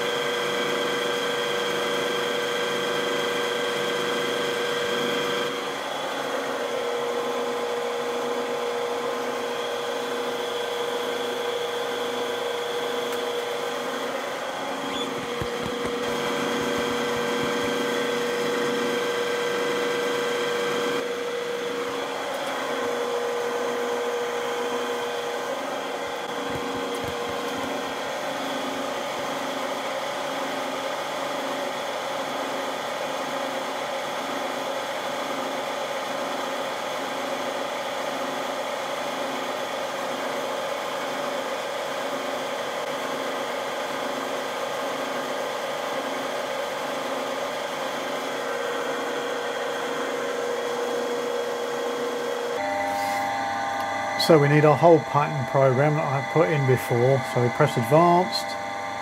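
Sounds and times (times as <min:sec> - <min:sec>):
milling machine whining: 0:00.0 - 0:59.0.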